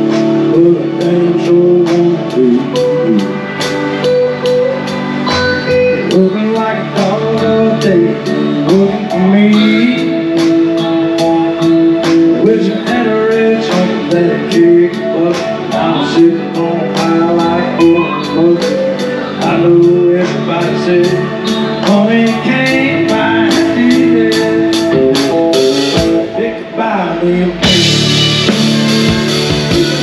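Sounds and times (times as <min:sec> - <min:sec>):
country band playing: 0:00.0 - 0:30.0
drum kit beat: 0:00.0 - 0:30.0
electric guitar: 0:00.0 - 0:30.0
keyboard: 0:00.0 - 0:30.0
person singing: 0:00.0 - 0:30.0.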